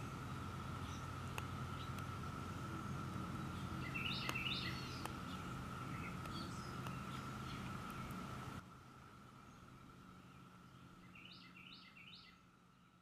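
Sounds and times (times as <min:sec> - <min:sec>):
bird chirps: 0:00.0 - 0:08.4, 0:09.4 - 0:13.0
cicadas droning: 0:00.0 - 0:13.0
low background rumble: 0:00.0 - 0:13.0.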